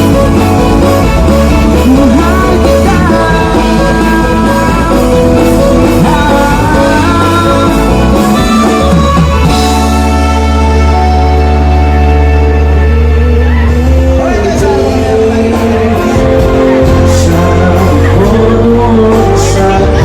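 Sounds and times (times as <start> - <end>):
loud music with singing: 0.0 - 20.0
strong bass: 0.0 - 20.0.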